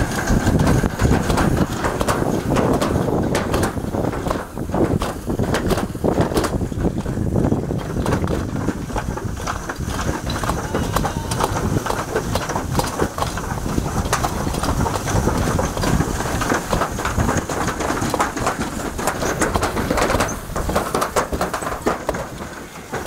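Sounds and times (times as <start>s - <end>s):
sled wheels rumbling on metal chute: 0.0s - 23.0s
small rattles and knocks: 0.0s - 23.0s.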